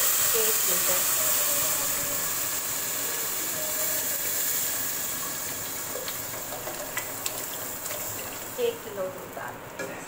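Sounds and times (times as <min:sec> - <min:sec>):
hissing and sizzling in hot pot: 0:00.0 - 0:10.0.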